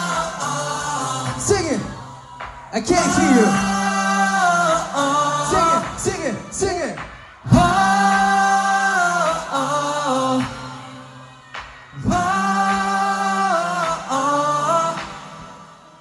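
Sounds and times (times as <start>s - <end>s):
voices singing: 0.0s - 16.0s.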